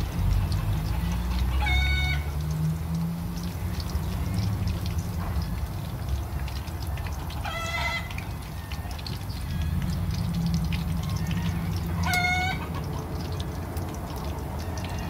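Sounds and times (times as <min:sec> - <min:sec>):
onions frying in hot oil: 0:00.0 - 0:15.0.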